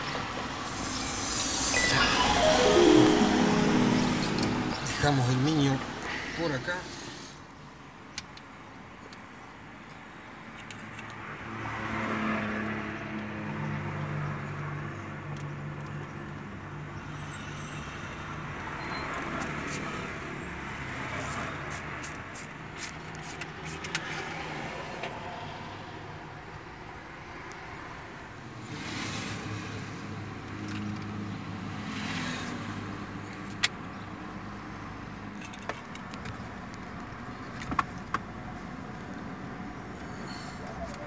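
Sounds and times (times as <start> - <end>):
street traffic hum: 0.0 - 1.8, 5.0 - 41.0.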